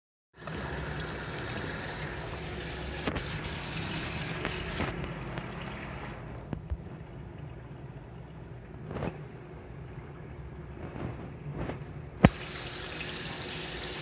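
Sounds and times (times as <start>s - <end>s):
washing machine running: 0.4s - 14.0s.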